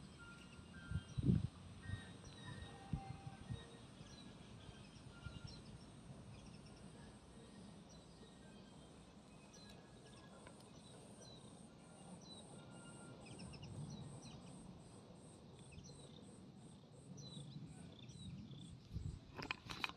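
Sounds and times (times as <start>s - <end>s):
faint insect call: 0.0s - 19.9s.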